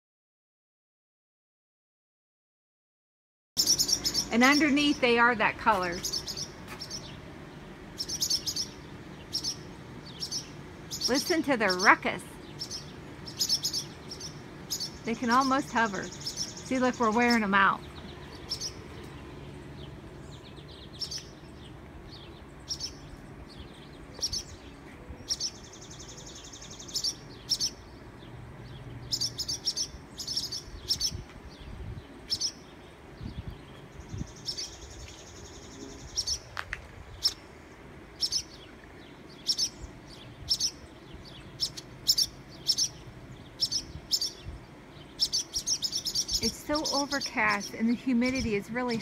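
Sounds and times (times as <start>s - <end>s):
swallows chattering: 3.6s - 36.5s, 38.2s - 49.0s
swallows alarm calls: 3.6s - 49.0s.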